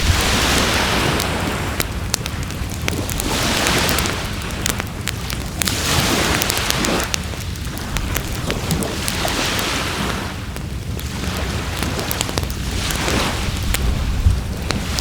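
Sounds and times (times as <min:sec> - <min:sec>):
surf: 0:00.0 - 0:15.0
wood fire crackling and popping: 0:00.0 - 0:15.0.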